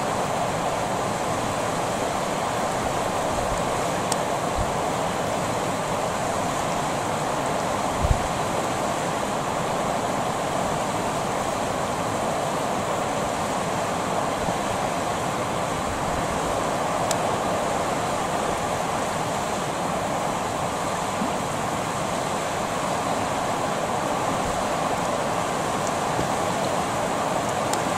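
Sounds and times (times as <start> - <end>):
river water over rocks: 0.0 - 27.9.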